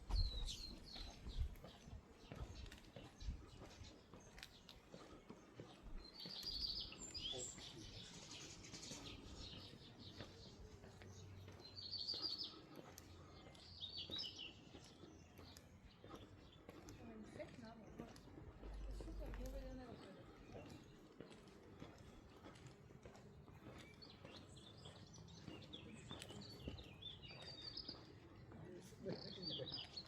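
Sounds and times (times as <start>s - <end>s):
distant bird chirps: 0.0s - 30.0s
faint street ambience: 0.0s - 30.0s
soft footsteps: 0.0s - 30.0s
songbirds trilling: 0.0s - 30.0s.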